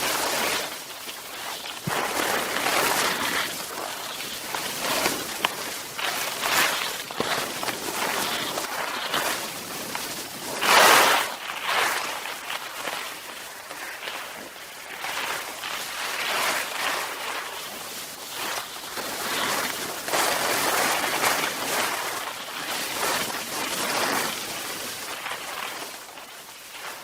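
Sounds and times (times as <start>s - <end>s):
skis swooshing over snow: 0.0s - 27.0s.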